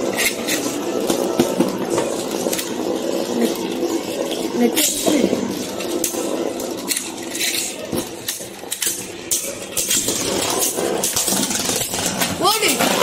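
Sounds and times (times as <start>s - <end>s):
spinning tops clacking: 0.0s - 13.0s
spinning tops whirring and scraping: 0.0s - 13.0s.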